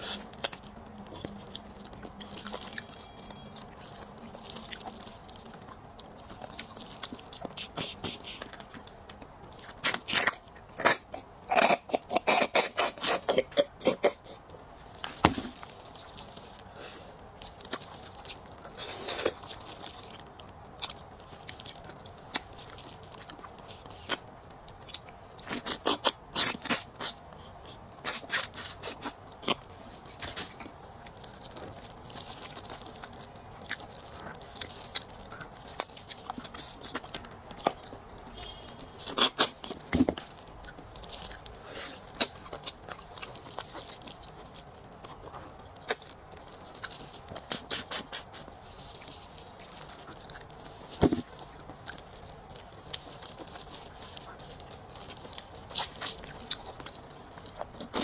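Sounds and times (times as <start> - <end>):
gnawing meat off bones: 0.0 - 58.0.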